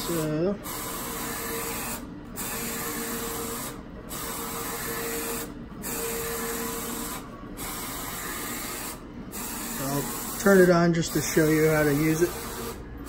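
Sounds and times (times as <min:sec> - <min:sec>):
printer carriage whirring: 0:00.0 - 0:13.0.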